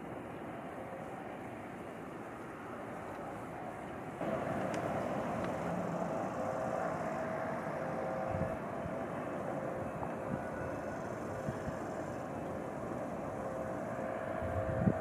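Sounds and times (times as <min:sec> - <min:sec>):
electric train rumble and whine: 0:00.0 - 0:15.0
outdoor background noise: 0:00.0 - 0:15.0.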